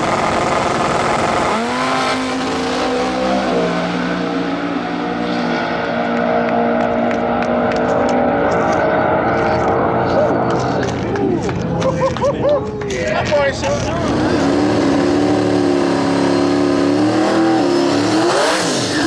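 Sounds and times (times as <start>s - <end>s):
drag race car accelerating: 0.0s - 19.0s.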